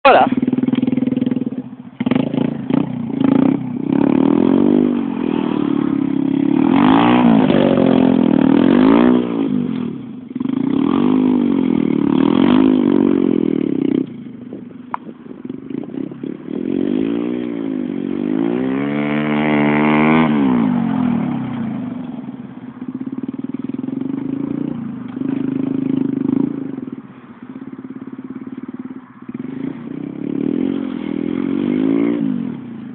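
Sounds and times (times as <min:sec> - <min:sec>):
small motorcycle engine revving: 0:00.0 - 0:32.9.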